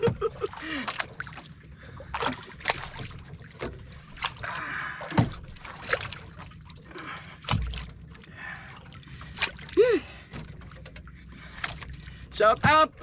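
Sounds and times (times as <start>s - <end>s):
water slapping against hull: 0.0s - 13.0s.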